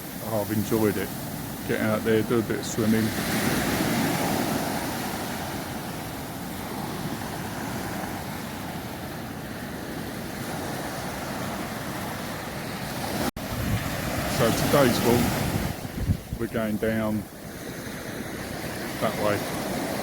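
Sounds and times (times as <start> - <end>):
small waves washing onto beach: 0.0 - 20.0
wind on microphone: 2.8 - 20.0.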